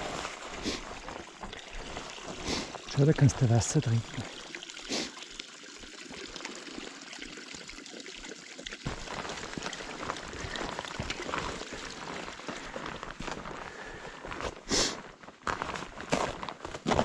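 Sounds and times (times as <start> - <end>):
water trickling: 0.0 - 14.7.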